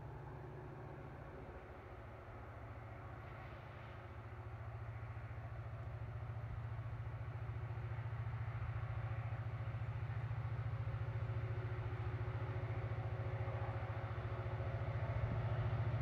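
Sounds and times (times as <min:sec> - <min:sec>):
engine low pulsing drone: 0:00.0 - 0:16.0.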